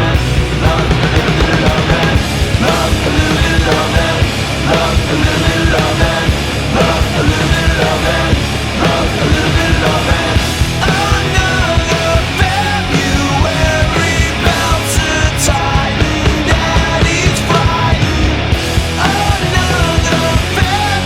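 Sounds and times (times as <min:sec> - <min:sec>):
punk rock band playing: 0:00.0 - 0:21.0.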